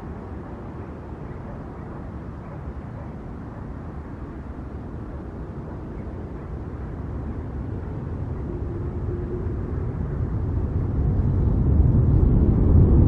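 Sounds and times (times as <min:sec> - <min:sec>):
airplane rumble: 0:00.0 - 0:13.0.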